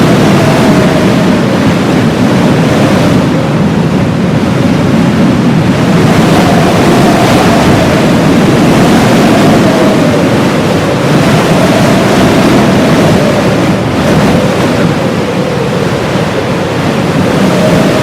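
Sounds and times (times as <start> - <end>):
blizzard wind blowing: 0.0 - 18.0
howling wind whistle: 0.0 - 18.0.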